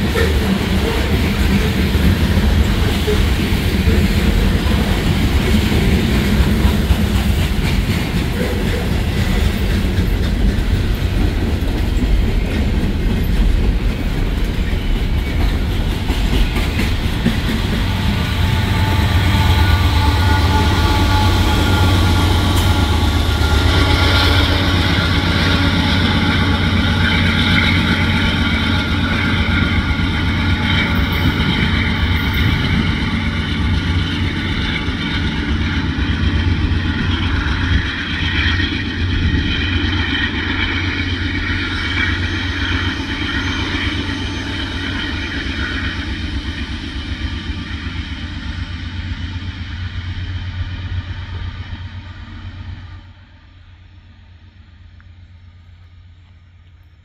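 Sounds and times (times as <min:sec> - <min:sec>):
diesel locomotive engine drone: 0:00.0 - 0:57.0
steel wheels on rail: 0:00.0 - 0:57.0.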